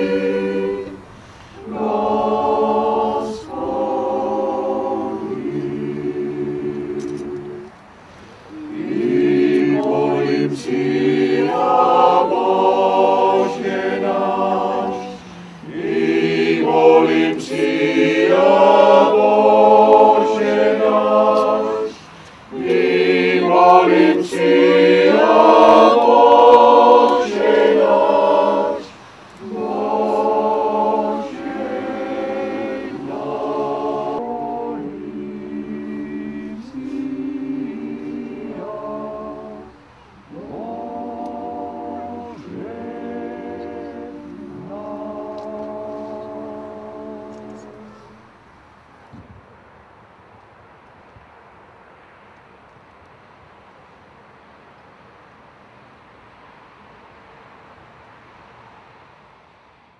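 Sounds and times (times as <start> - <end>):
mixed choir singing: 0.0 - 48.3.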